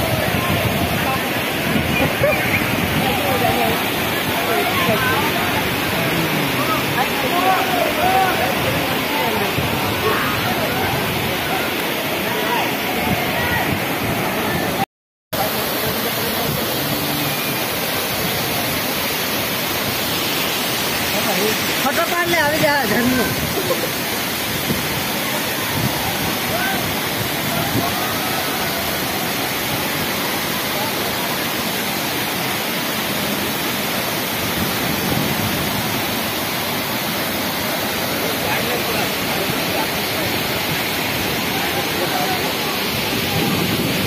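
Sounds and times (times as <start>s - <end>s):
waterfall rushing onto rocks: 0.0s - 44.0s.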